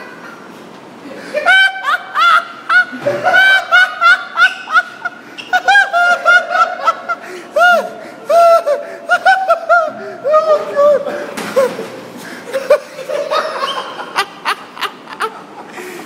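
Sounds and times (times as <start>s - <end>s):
high-pitched laughter: 1.3s - 11.8s, 12.5s - 15.7s.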